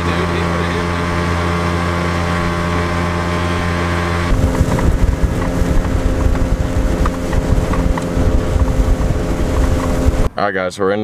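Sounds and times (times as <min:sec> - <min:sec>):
outboard motor drone: 0:00.0 - 0:10.3
wind buffeting microphone: 0:00.9 - 0:10.4.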